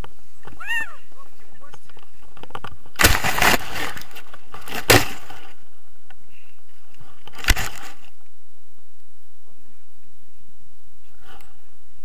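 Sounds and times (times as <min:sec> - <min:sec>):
grass rustling on microphone: 0:00.0 - 0:12.0.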